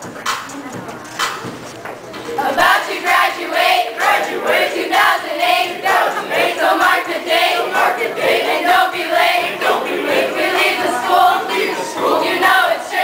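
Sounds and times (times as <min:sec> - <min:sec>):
young voices chanting a rap: 0:02.2 - 0:13.0.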